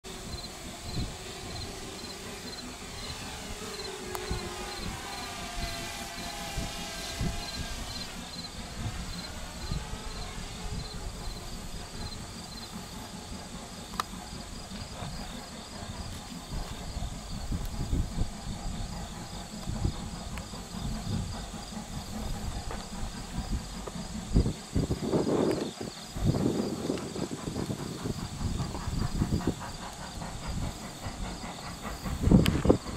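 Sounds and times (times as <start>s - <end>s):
insects chirping: 0.2s - 6.3s, 7.1s - 13.2s, 13.8s - 32.9s.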